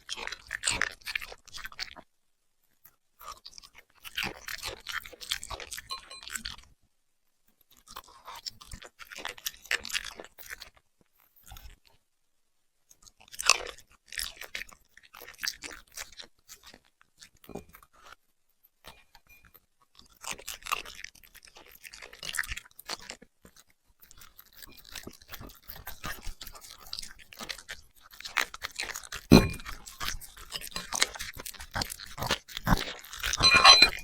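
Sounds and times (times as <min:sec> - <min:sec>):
puppy chewing and crunching food: 0:00.0 - 0:06.8, 0:07.5 - 0:12.0, 0:12.8 - 0:34.0.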